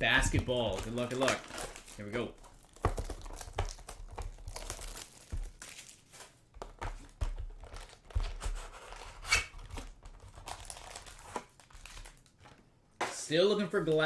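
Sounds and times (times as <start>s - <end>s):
foil wrappers crinkling and tearing: 0.0s - 12.6s.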